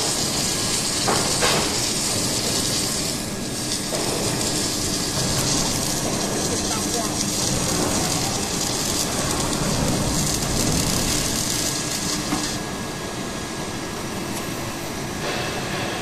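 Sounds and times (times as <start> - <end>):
machine hum: 0.0 - 16.0
welding hiss: 0.0 - 16.0.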